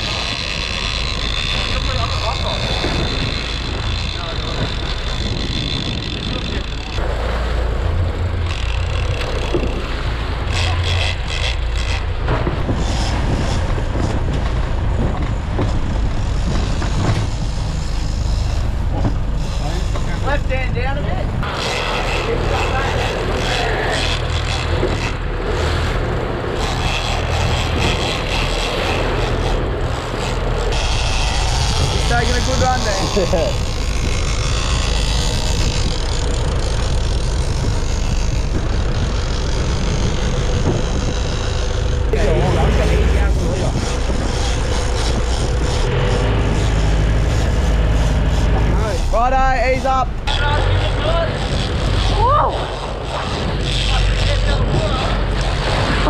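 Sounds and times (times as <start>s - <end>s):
boat engine drone: 0.0s - 56.0s
water rushing along hull: 0.0s - 56.0s
wind buffeting microphone: 0.0s - 56.0s.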